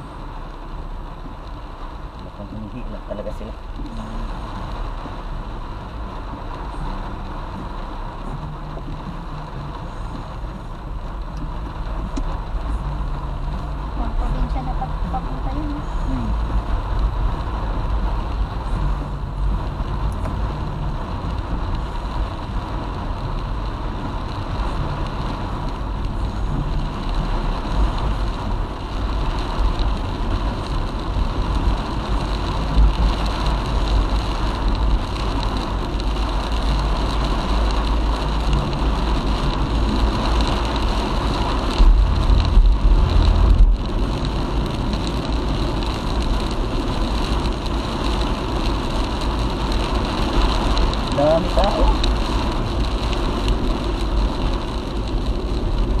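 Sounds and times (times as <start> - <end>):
car road and engine rumble: 0.0 - 56.0
continuous road hiss: 0.0 - 56.0.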